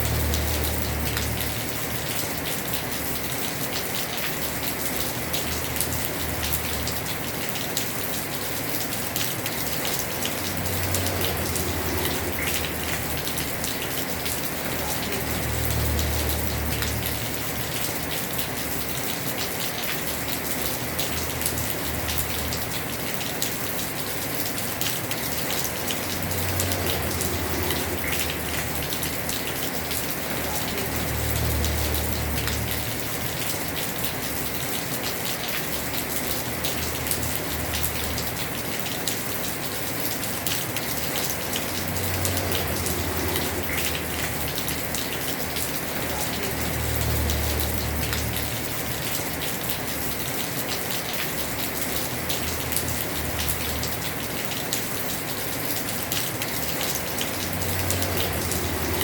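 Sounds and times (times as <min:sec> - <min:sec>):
heavy rain on a roof: 0:00.0 - 0:59.0.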